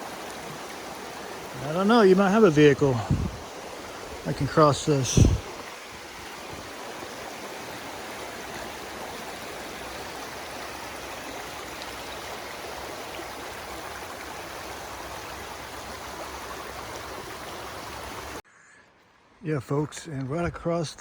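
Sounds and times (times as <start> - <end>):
creek water rushing over rocks: 0.0 - 18.4.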